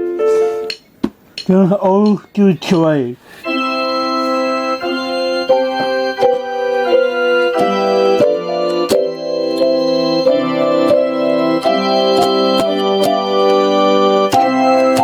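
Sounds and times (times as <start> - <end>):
electronic keyboard organ tune: 0.0 - 15.0.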